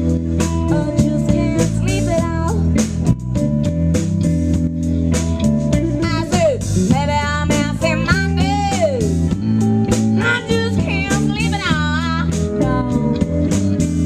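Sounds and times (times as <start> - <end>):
bass guitar: 0.0 - 14.0
drum kit with cymbals: 0.0 - 14.0
electric guitar: 0.0 - 14.0.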